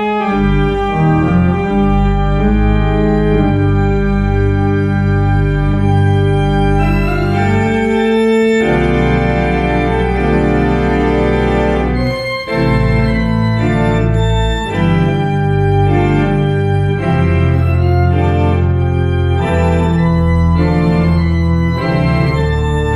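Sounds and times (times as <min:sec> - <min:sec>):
pipe organ chords: 0:00.0 - 0:22.9.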